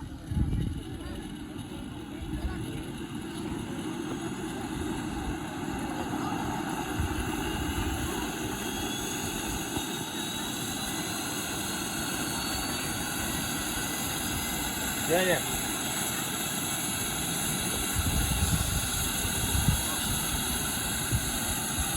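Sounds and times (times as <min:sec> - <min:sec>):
faint high whine: 0:00.0 - 0:21.9
turbine engine rushing: 0:00.0 - 0:21.9.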